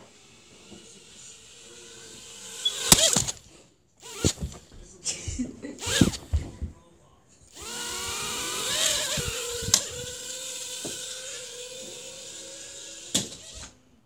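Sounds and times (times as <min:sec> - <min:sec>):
toy electric motors whirring: 0:00.0 - 0:04.7, 0:05.8 - 0:06.6, 0:07.5 - 0:13.8.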